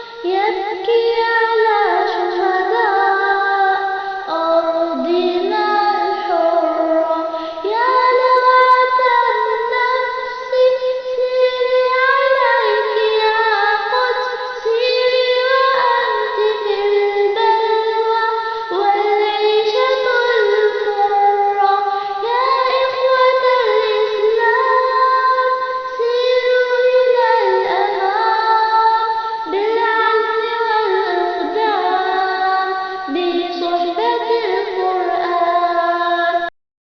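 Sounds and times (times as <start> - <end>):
girl singing: 0.0 - 36.5.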